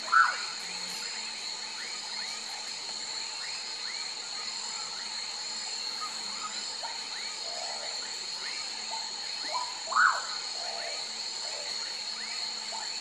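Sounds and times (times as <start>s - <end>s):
frogs chirping: 0.0s - 13.0s.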